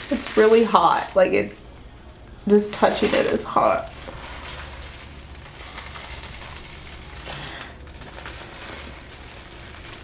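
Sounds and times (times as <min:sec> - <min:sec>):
plastic cling wrap crinkling: 0:00.0 - 0:10.0.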